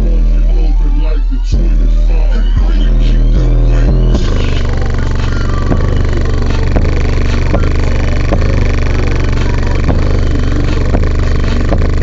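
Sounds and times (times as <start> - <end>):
subwoofer playing deep bass line: 0.0 - 12.0.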